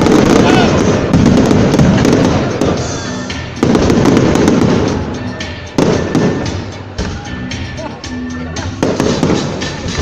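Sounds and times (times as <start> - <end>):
fireworks booming: 0.0 - 7.1, 8.8 - 10.0
fireworks crackling: 0.0 - 7.6, 8.6 - 10.0
music: 0.0 - 10.0.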